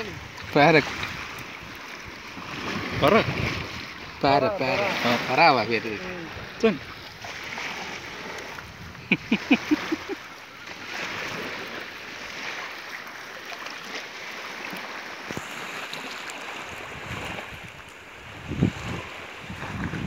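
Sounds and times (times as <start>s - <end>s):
water lapping: 0.0s - 20.0s
wind: 0.0s - 20.0s.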